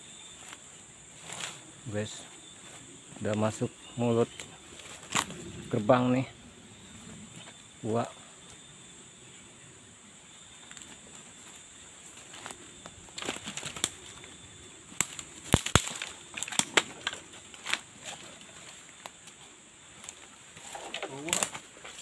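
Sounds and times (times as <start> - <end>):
dry leaves crackling underfoot: 0.0 - 6.2, 10.4 - 22.0.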